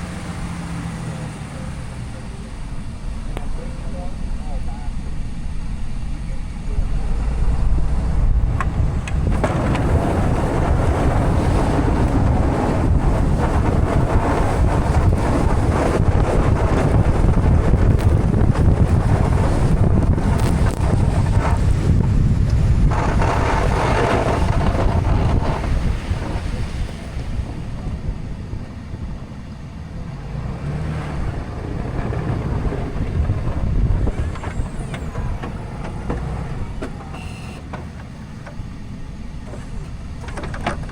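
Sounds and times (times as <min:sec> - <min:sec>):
low vehicle rumble: 0:00.0 - 0:40.9
wind buffeting microphone: 0:01.7 - 0:37.1.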